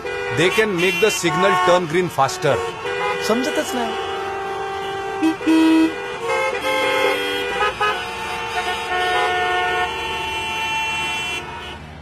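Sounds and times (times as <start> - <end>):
car horns honking: 0.0 - 12.0.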